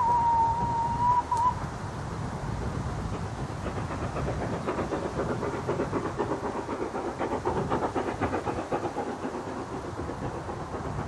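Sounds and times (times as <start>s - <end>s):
steam locomotive exhaust beats: 0.0s - 11.0s.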